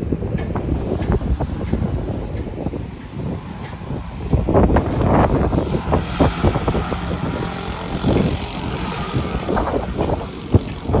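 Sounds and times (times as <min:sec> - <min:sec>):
motor scooter engine passing: 0:00.6 - 0:11.0.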